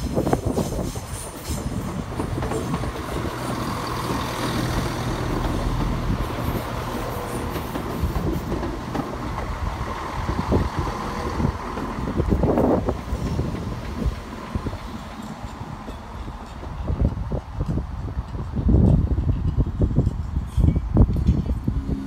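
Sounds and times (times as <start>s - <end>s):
diesel train drone: 0.0s - 22.0s
wheel and rail noise: 0.0s - 22.0s.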